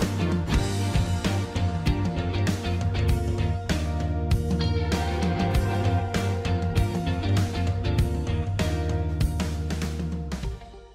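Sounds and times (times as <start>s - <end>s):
pop music with guitar bass and drums: 0.0s - 10.9s.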